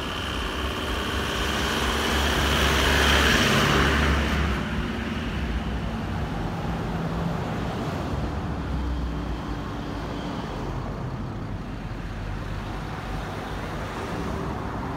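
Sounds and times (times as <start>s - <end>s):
road traffic rumble: 0.0s - 14.9s.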